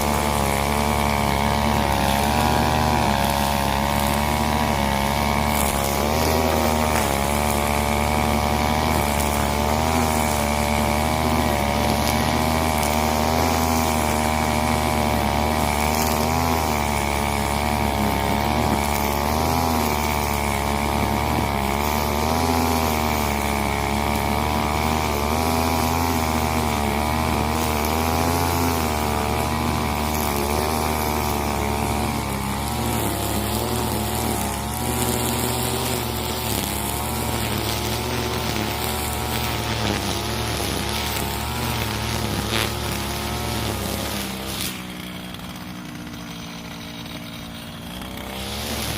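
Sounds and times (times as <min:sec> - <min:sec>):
brush cutter engine running: 0:00.0 - 0:48.9.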